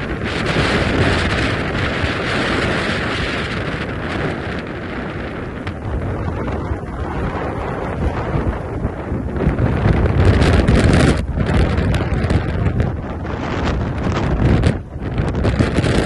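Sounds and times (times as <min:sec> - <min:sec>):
sails flapping: 0:00.0 - 0:16.0
wind buffeting microphone: 0:00.0 - 0:16.0.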